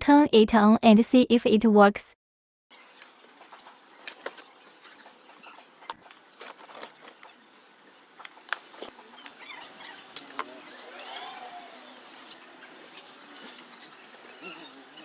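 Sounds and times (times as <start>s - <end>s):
small scraping noises: 2.9s - 15.0s.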